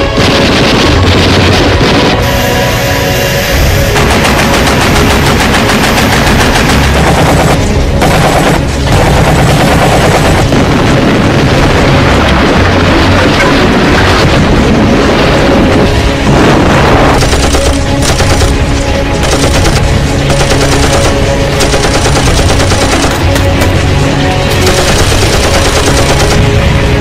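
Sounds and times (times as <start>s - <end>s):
rapid machine-gun fire: 0.0s - 2.3s, 3.8s - 13.3s, 16.3s - 26.7s
loud background music: 0.0s - 27.0s.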